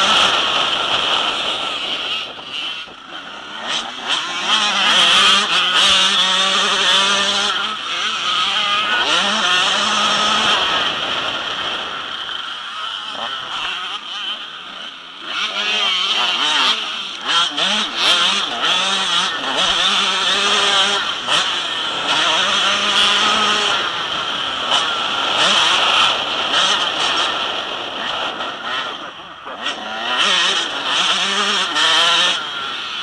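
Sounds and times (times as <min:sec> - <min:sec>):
motocross bike engines revving: 0:00.0 - 0:33.0.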